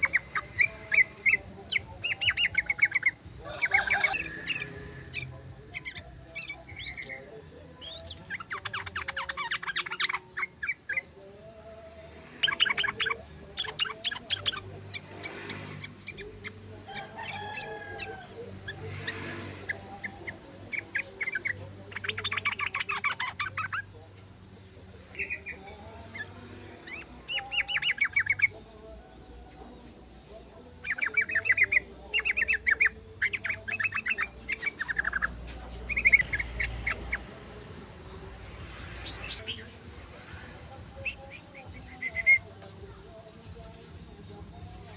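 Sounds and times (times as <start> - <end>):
bird singing chattering notes: 0.0 - 11.6, 12.4 - 44.9.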